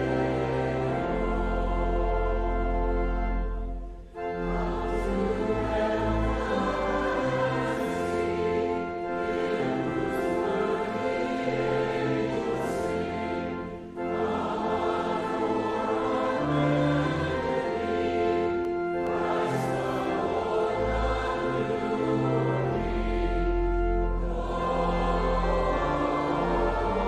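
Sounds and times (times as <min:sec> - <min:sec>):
choir singing a hymn: 0:00.0 - 0:27.0
instrumental accompaniment: 0:00.0 - 0:27.0.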